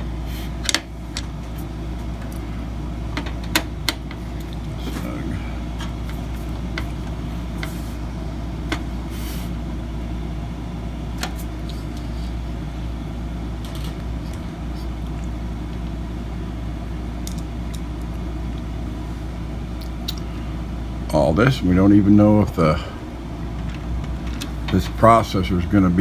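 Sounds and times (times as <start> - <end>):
low machinery hum: 0.0 - 26.0.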